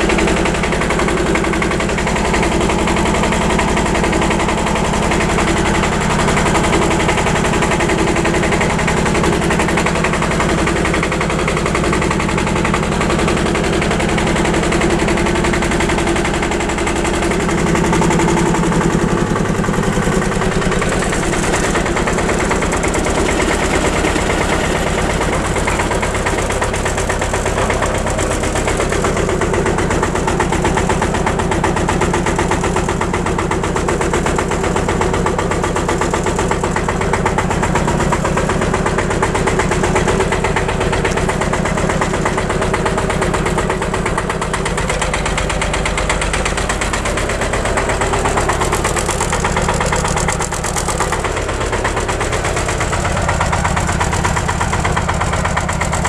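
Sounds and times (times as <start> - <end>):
diesel tractor engine knocking: 0.0 - 56.0.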